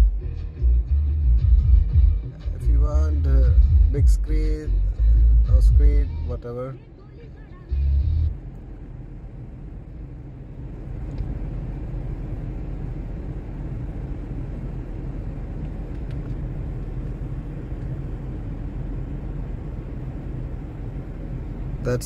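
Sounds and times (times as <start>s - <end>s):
car engine idling rumble: 0.0s - 22.0s.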